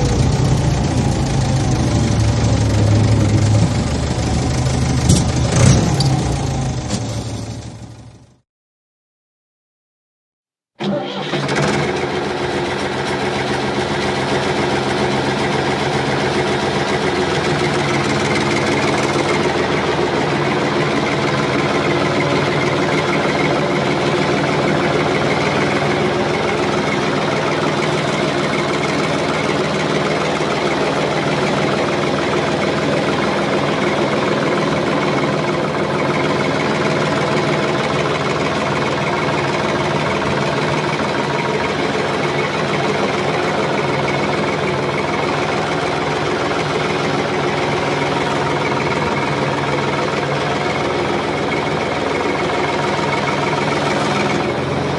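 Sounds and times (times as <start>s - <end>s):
heavy machine engine running: 0.0s - 8.4s, 10.8s - 54.9s.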